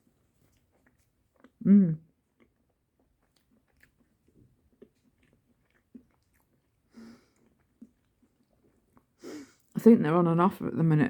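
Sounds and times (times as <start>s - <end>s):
person chewing: 0.0s - 9.7s.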